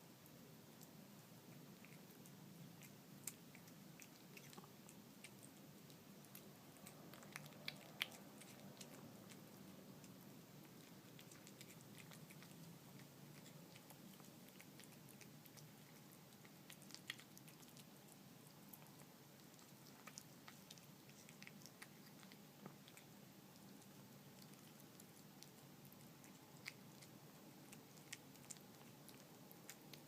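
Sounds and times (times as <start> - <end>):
cat chewing food: 0.2 - 30.0.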